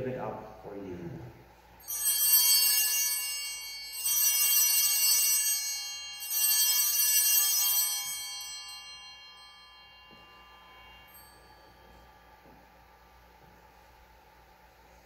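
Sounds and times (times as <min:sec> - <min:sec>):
altar bells ringing: 0:01.6 - 0:13.8.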